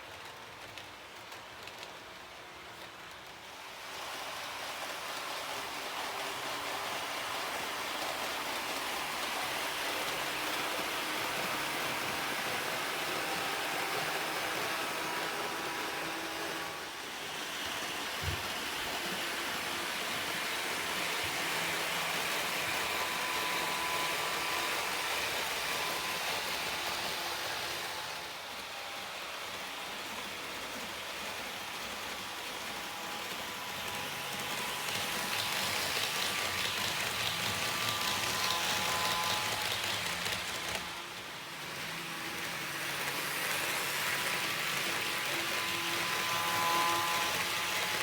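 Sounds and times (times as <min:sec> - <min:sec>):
model train wheels on rails: 0:00.0 - 0:48.0
faint motor whine: 0:03.0 - 0:48.0.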